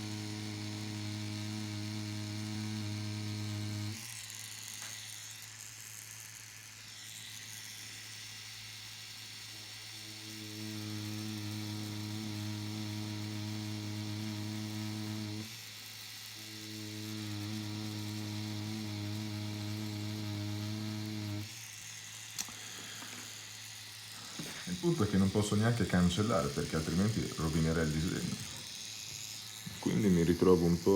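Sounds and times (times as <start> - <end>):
tattoo machine buzzing: 0.0 - 30.9.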